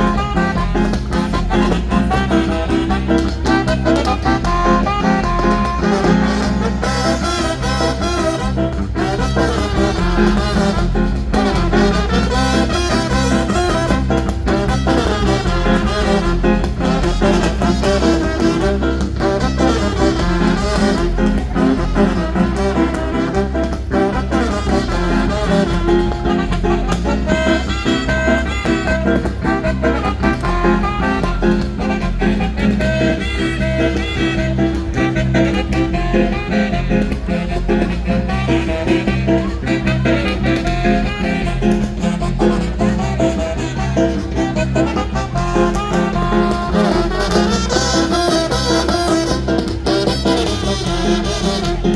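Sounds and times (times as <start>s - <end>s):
brass band playing dance music: 0.0s - 51.9s.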